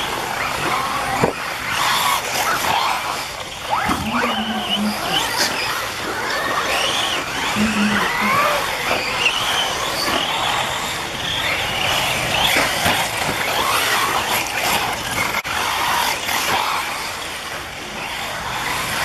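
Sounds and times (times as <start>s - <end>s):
rc car motors whining: 0.0s - 19.0s.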